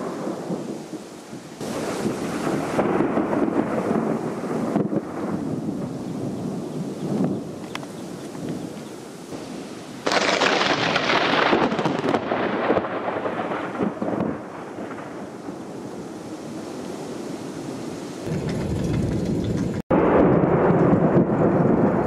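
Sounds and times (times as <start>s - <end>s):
thunderclap rumbling: 0.0s - 16.0s, 18.2s - 22.0s
rain hissing: 0.0s - 19.9s.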